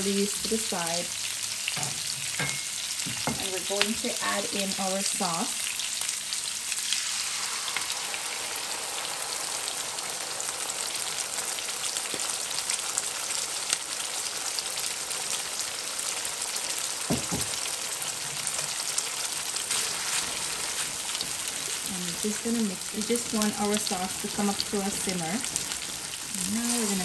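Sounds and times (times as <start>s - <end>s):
oil and vegetables sizzling in wok: 0.0s - 27.0s.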